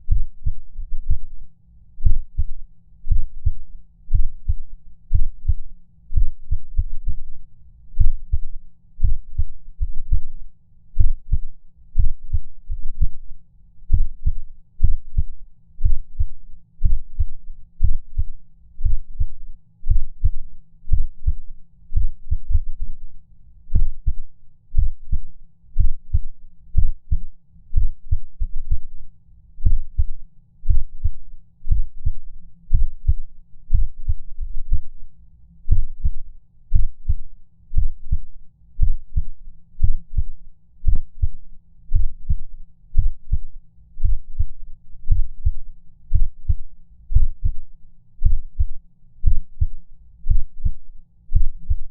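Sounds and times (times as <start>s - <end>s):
heartbeat thumps: 0.0s - 1.3s, 2.0s - 7.3s, 8.0s - 13.2s, 13.8s - 23.0s, 23.7s - 29.0s, 29.6s - 35.0s, 35.7s - 47.6s, 48.2s - 51.9s.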